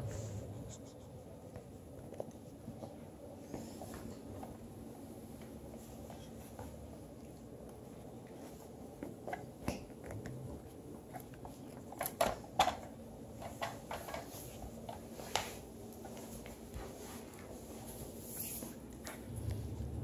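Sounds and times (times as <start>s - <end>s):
faint steady hum: 0.0s - 20.0s
puppies mouthing clicks and rustles: 0.6s - 19.6s.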